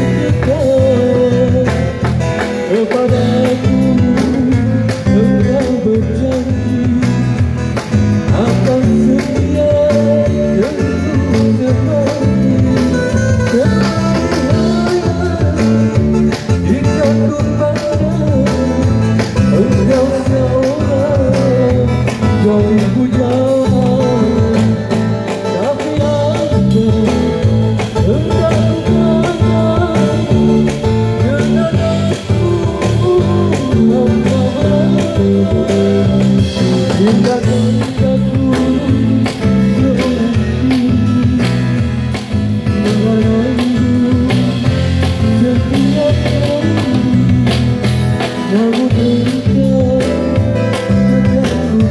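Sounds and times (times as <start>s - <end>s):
person singing: 0.0s - 42.2s, 42.8s - 51.9s
amplified guitar: 0.0s - 51.9s.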